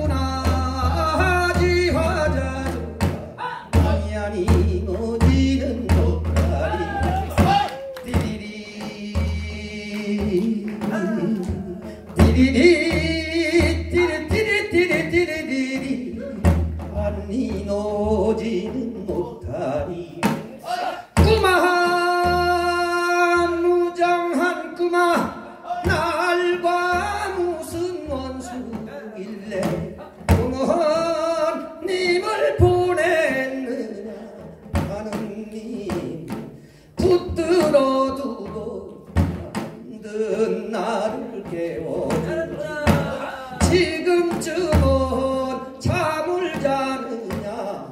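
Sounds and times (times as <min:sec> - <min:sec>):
man singing into microphone: 0:00.0 - 0:47.9.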